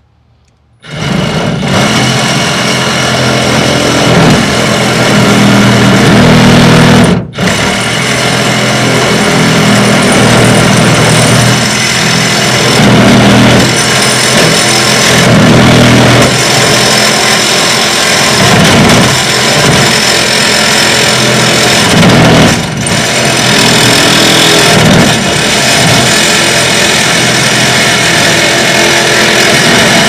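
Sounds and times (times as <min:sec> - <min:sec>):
power tool cutting metal: 0:00.8 - 0:30.0.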